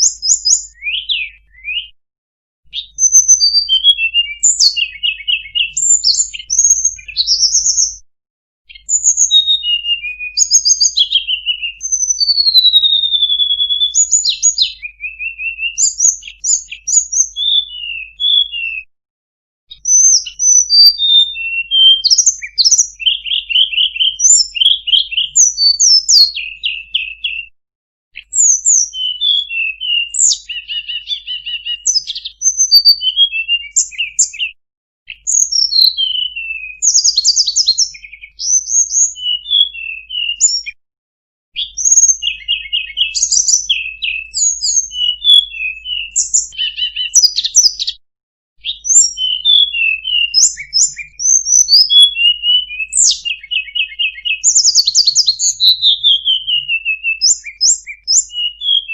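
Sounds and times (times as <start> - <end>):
bird singing chirps and trills: 0.0 - 2.0, 2.7 - 8.0, 8.7 - 18.9, 19.7 - 27.5, 28.2 - 40.8, 41.6 - 48.0, 48.6 - 58.9.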